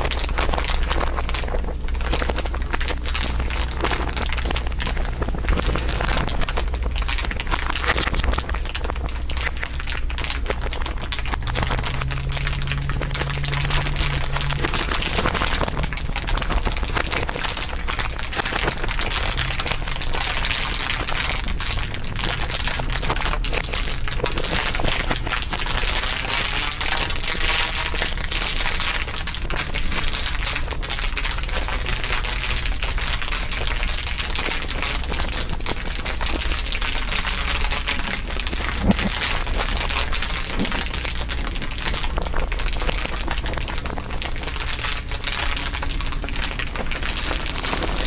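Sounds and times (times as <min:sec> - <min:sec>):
dense crinkling crackle: 0:00.0 - 0:48.0
low steady hum: 0:00.0 - 0:48.0.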